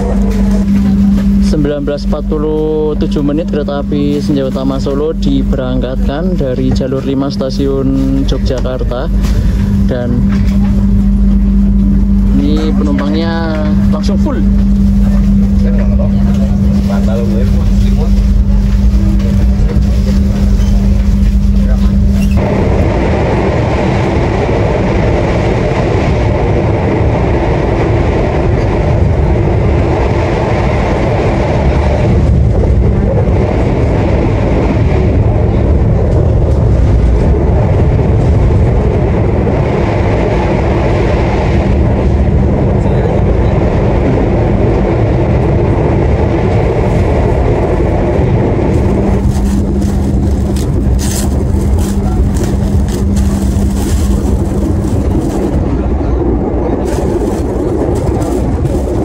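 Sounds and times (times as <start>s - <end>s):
steady hum: 0.0s - 59.0s
train wheels rumbling on rails: 0.0s - 59.0s.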